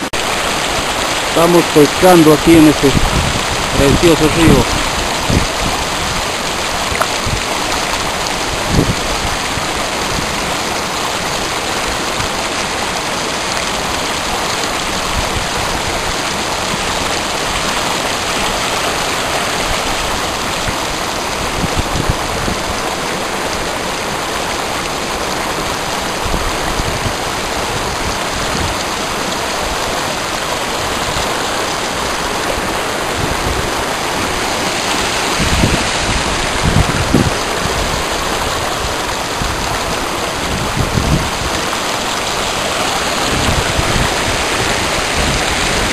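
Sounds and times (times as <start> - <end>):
river flowing: 0.0 - 45.9.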